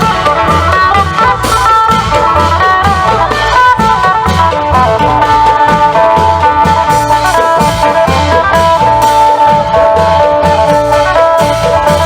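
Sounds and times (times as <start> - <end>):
long drums beat: 0.0 - 12.0.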